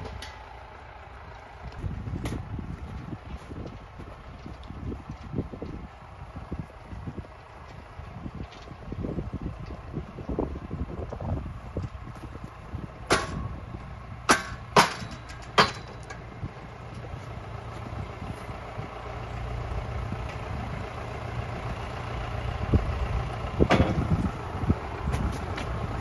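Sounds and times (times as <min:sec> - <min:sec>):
tractor engine humming: 0:00.0 - 0:26.0.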